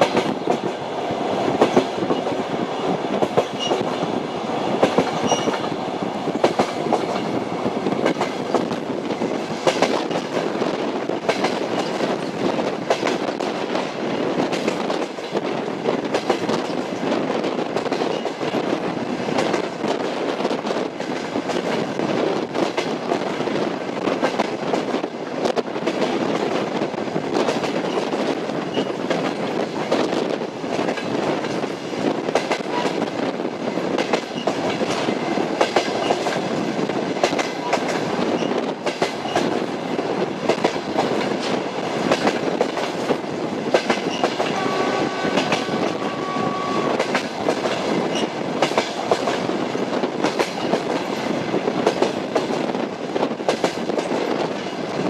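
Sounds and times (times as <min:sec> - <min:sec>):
train rumble: 0:00.0 - 0:55.0
train wheels clicking over rail joints: 0:00.0 - 0:55.0.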